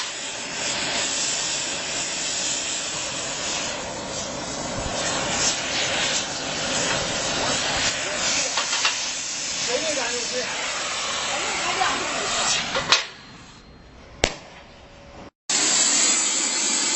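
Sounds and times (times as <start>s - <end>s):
briquettes burning with rushing hiss: 0.0s - 13.6s.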